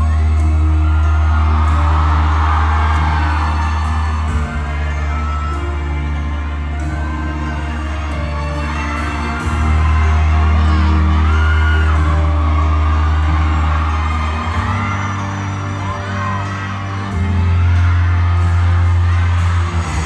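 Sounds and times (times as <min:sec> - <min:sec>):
amplified music with deep bass: 0:00.0 - 0:20.0
fans whooping and screaming: 0:00.0 - 0:20.0.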